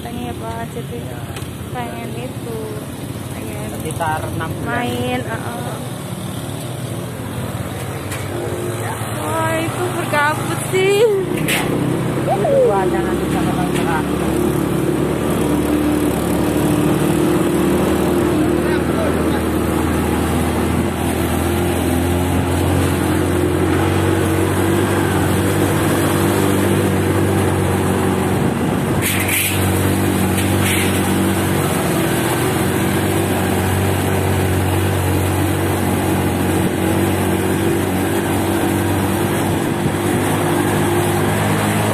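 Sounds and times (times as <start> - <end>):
small motorcycle engine running: 0.0 - 41.9.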